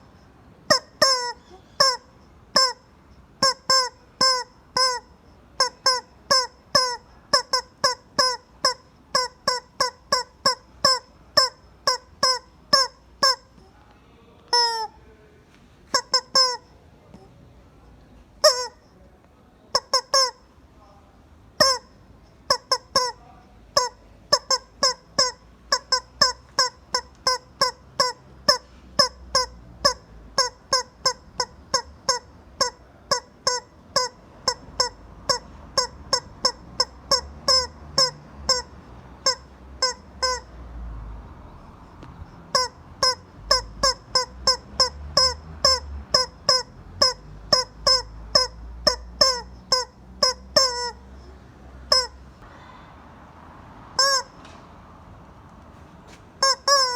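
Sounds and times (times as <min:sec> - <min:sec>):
rubber chicken toy squawking: 0:00.0 - 0:13.7, 0:14.5 - 0:15.0, 0:15.9 - 0:17.3, 0:18.4 - 0:19.0, 0:19.7 - 0:20.6, 0:21.6 - 0:40.6, 0:41.9 - 0:52.4, 0:54.0 - 0:54.5, 0:56.4 - 0:56.9.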